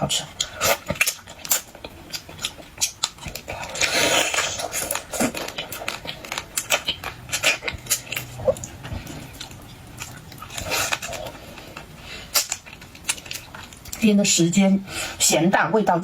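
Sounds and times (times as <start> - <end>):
wet chewing: 0.1 - 14.1.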